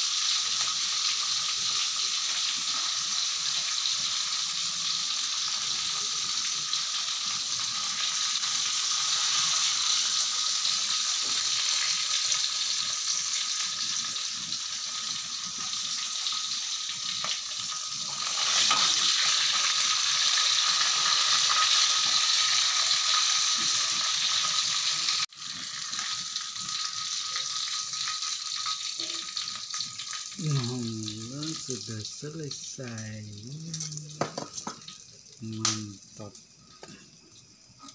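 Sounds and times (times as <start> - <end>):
fish sizzling in hot oil: 0.0 - 37.9.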